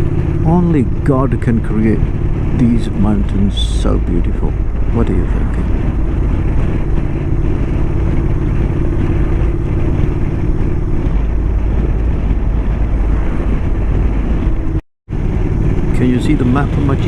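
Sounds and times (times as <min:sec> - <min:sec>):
motorcycle engine: 0:00.0 - 0:17.0
road and wind noise: 0:00.0 - 0:17.0.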